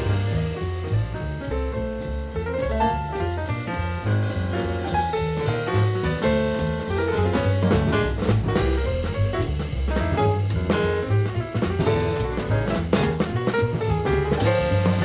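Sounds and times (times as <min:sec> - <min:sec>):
drum kit with cymbals: 0:00.0 - 0:15.0
piano: 0:00.0 - 0:15.0
walking double bass: 0:00.0 - 0:15.0.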